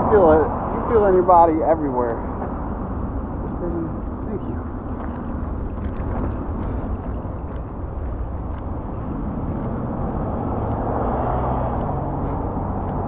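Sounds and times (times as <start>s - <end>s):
road noise: 0.0s - 13.0s
wind rush: 0.0s - 13.0s
low hum: 2.1s - 13.0s.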